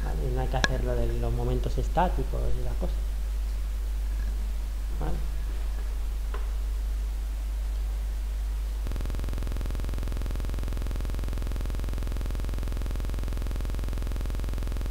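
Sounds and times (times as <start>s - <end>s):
electrical mains hum: 0.0s - 14.9s
harsh electrical buzz: 0.0s - 14.9s.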